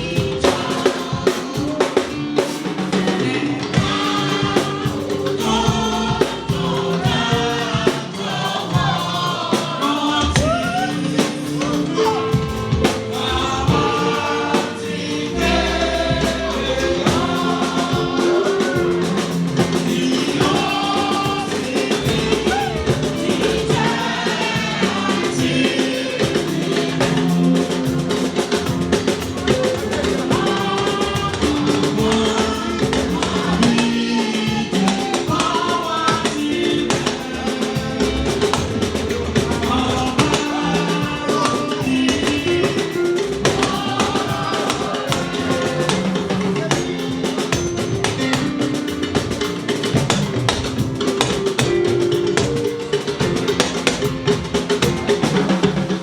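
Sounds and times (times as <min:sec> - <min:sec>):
choir singing a hymn: 0:00.0 - 0:56.0
steady drum: 0:00.0 - 0:56.0.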